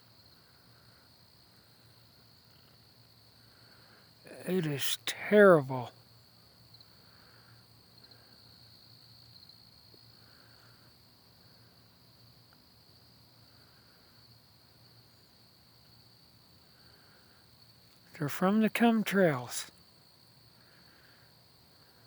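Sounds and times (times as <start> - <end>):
crickets trilling: 0.1 - 22.0.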